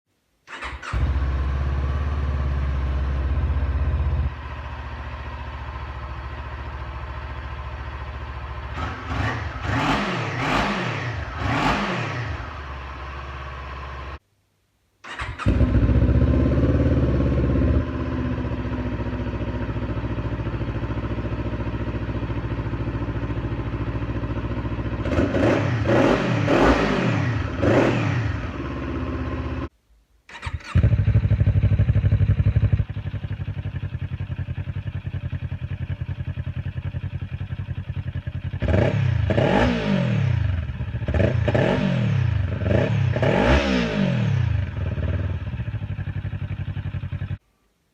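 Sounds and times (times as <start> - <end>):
motorcycle engine revving: 0.5 - 4.8, 5.4 - 14.2, 15.0 - 29.7, 30.3 - 47.4
motorcycle engine starting: 0.5 - 14.2, 15.0 - 29.7, 30.3 - 47.4
motorcycle engine idling: 0.6 - 9.8, 12.2 - 14.2, 15.1 - 25.9, 27.2 - 29.7, 30.7 - 41.6, 44.2 - 47.4.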